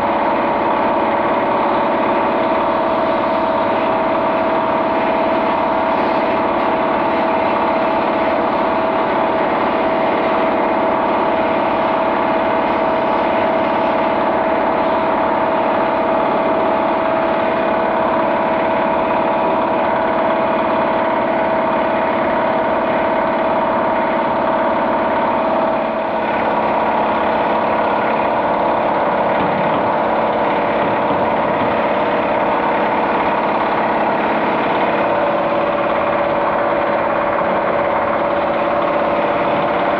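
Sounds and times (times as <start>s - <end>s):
machine whining: 0.0s - 39.9s.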